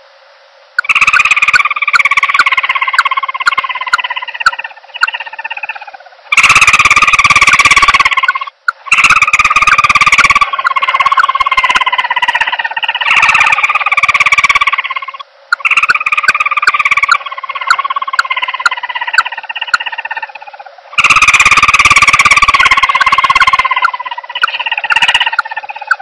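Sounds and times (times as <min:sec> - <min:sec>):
dove buzzy trilling call: 0:00.8 - 0:26.0.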